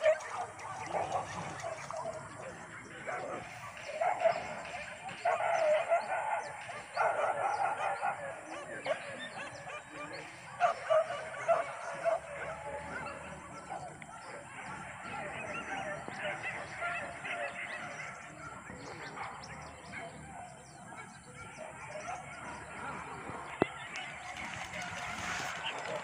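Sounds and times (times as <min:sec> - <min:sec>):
distant dogs barking and yelping: 0:00.0 - 0:26.0.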